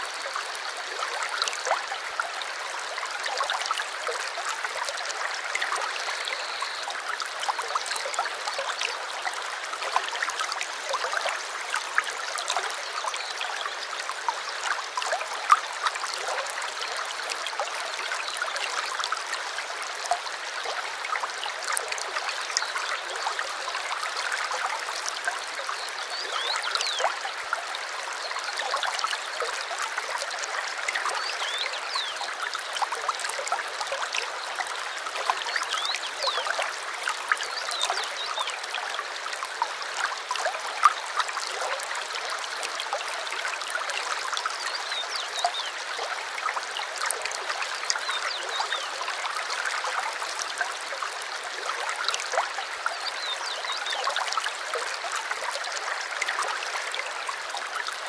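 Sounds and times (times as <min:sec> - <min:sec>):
stream flowing and trickling: 0:00.0 - 0:58.0.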